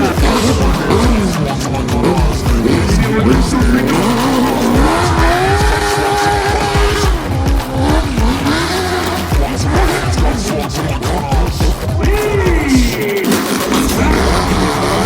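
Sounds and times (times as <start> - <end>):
background music with beat: 0.0 - 15.0
motorcycle engine revving: 0.0 - 15.0.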